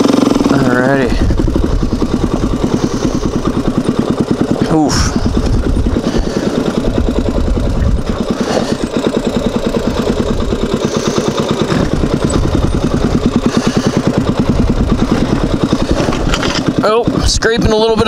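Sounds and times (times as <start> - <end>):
atv engine at low revs: 0.0 - 18.0.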